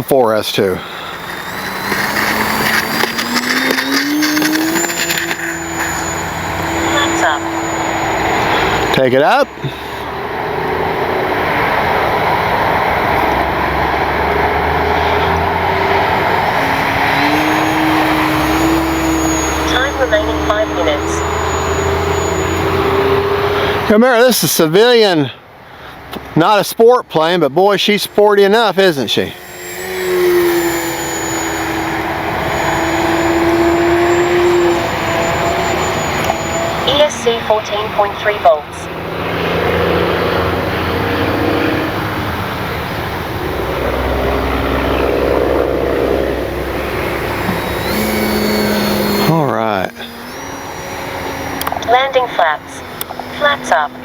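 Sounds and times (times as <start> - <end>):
model airplane motor whine: 0.5 - 23.9, 27.9 - 54.0.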